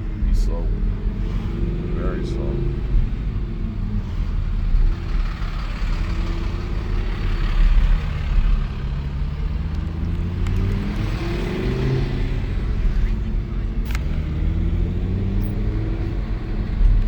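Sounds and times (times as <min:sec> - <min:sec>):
road and wind noise: 0:00.0 - 0:17.0
vehicle engine running: 0:00.0 - 0:17.0.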